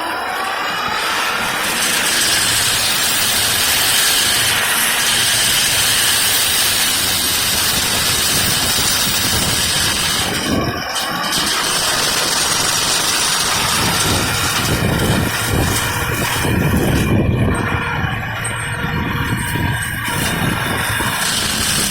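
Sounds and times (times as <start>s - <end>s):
heavy machine engine running: 0.0s - 21.9s
loud continuous rushing noise: 0.0s - 21.9s.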